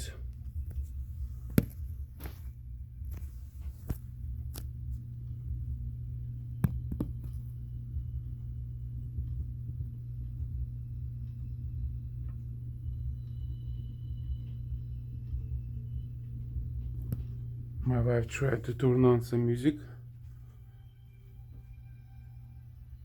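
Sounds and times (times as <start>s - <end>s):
low humming noise: 0.0s - 23.0s.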